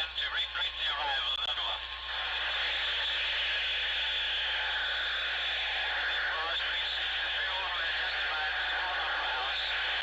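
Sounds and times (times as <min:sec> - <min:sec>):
tinny radio voice: 0:00.0 - 0:10.0.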